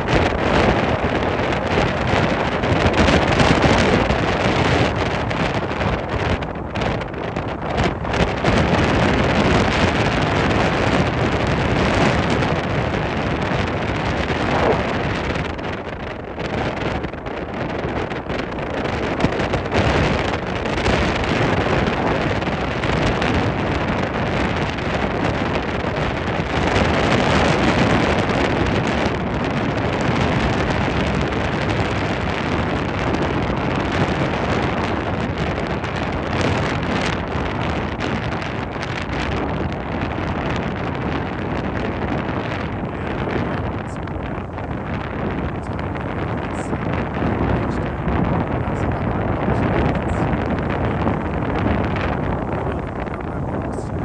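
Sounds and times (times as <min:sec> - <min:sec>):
speedboat on water: 0:00.0 - 0:54.0
wind buffeting microphone: 0:00.0 - 0:54.0.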